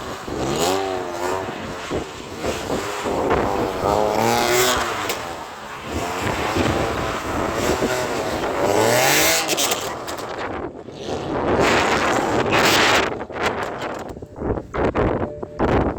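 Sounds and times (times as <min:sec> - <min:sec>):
car engine revving: 0:00.0 - 0:14.2
tyre and road noise: 0:00.0 - 0:15.9.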